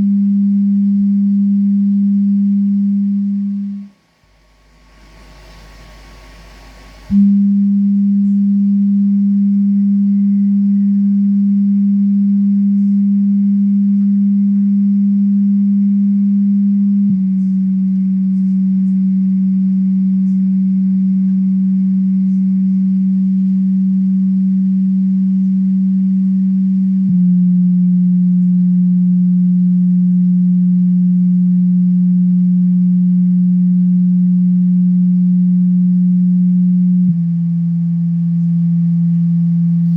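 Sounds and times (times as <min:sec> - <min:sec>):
subwoofer low test tones: 0:00.0 - 0:39.9.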